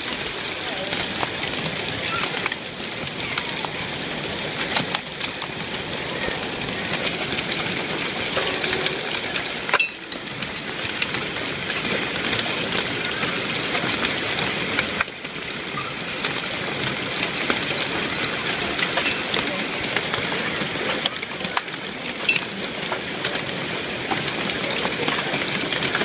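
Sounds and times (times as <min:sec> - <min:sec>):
hail ticking on surfaces: 0:00.0 - 0:26.0
torrential rain hiss: 0:00.0 - 0:26.0.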